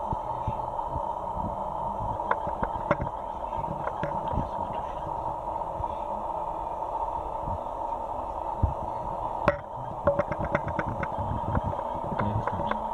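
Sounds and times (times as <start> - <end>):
steady background hiss: 0.0 - 12.9.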